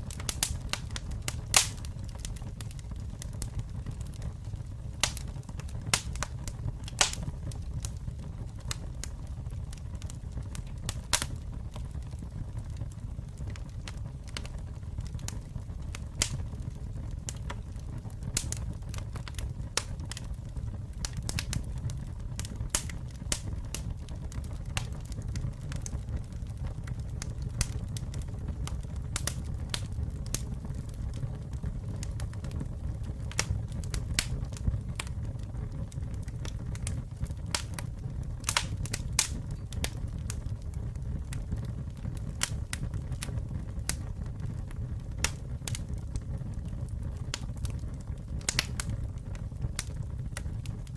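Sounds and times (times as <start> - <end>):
burning wood crackling and popping: 0.0 - 50.9
campfire low rumble: 0.0 - 50.9.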